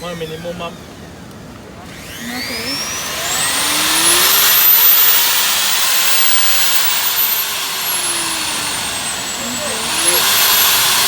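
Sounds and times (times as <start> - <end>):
wood router motor whining: 0.0 - 11.0.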